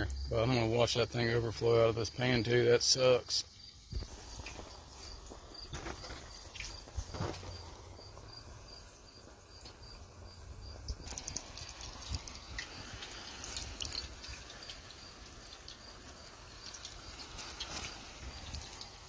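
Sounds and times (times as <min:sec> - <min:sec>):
cricket chirping: 0:00.0 - 0:19.0
frying oil crackling: 0:00.0 - 0:19.0.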